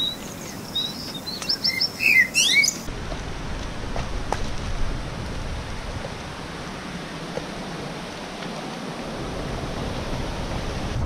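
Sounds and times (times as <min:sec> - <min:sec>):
ocean surf on rocky shore: 0:00.0 - 0:11.0.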